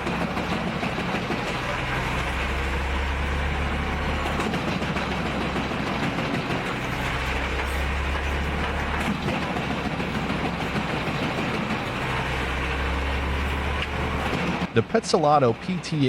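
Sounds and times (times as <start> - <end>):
heavy machinery droning: 0.0 - 16.0.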